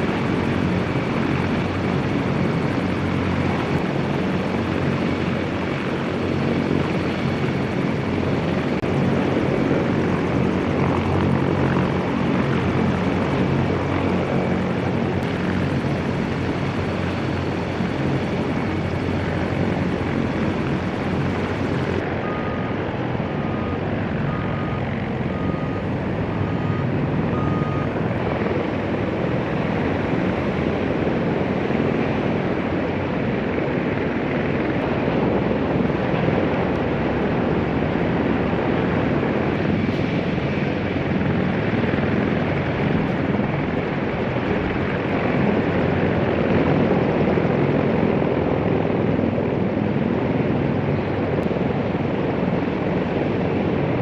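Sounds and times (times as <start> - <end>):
helicopter rotors and engines: 0.0 - 54.0.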